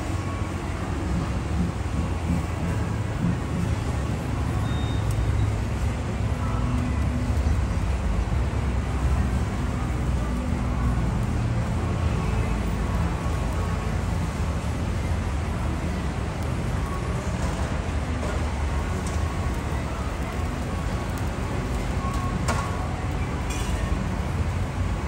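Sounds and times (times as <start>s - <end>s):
gas flames roaring: 0.0s - 25.0s.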